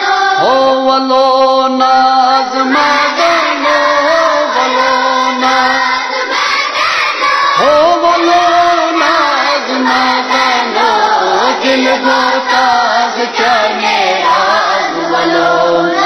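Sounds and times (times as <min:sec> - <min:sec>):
children singing together: 0:00.0 - 0:00.7, 0:02.4 - 0:16.0.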